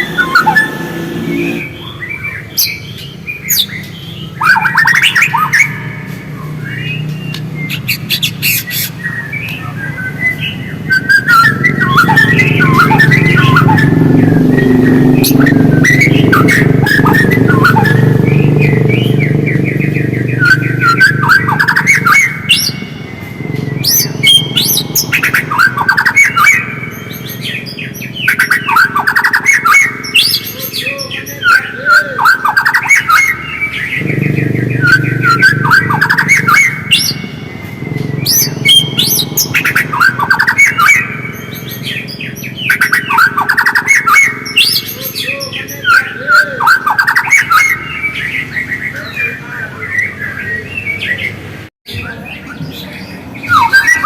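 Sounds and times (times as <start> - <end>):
bird singing chattering phrases: 0.0 - 54.0.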